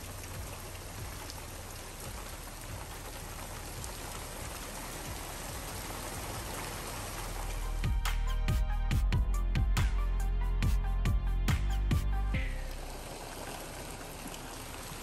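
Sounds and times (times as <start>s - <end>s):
heavy rain falling: 0.0s - 9.7s, 11.0s - 15.0s.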